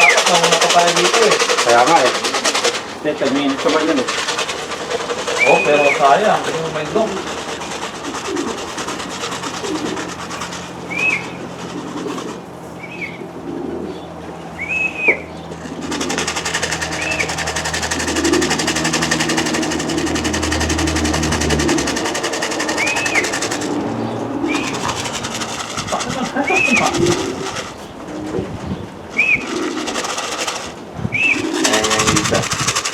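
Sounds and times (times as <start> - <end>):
steady low hum: 0.0 - 32.8
broad rushing noise: 0.0 - 32.9
pigeons cooing: 0.0 - 32.9.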